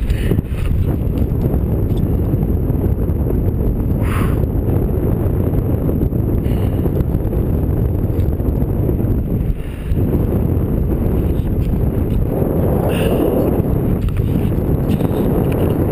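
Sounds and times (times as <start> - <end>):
strong wind buffeting microphone: 0.0 - 15.9.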